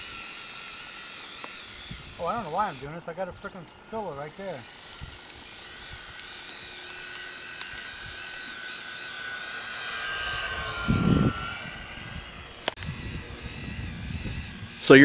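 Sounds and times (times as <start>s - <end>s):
model aircraft motor whine: 0.0s - 15.0s.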